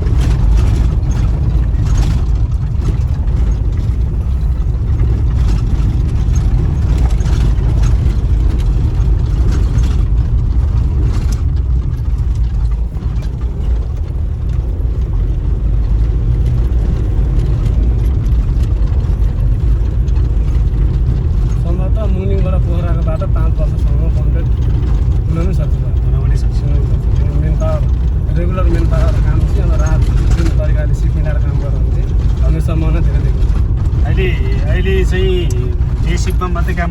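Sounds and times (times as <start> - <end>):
clicks and rattles: 0.0 - 36.9
vehicle engine rumbling: 0.0 - 36.9.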